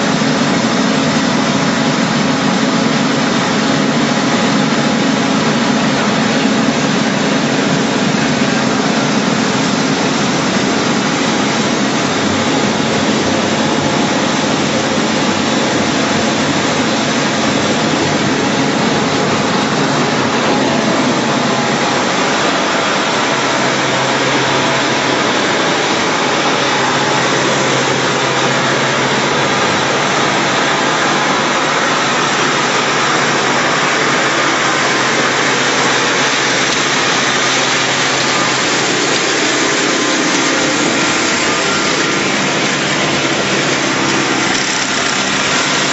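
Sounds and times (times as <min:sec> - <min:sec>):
loud machinery din: 0:00.0 - 0:45.9
paddle rollers churning water: 0:00.0 - 0:45.9.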